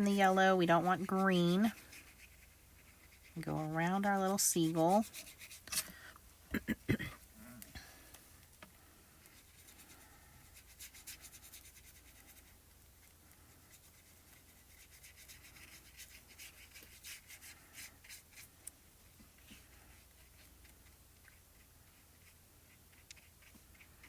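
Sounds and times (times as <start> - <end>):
brush bristles rubbing on paper: 0.0 - 5.9, 9.2 - 18.6, 19.2 - 24.0.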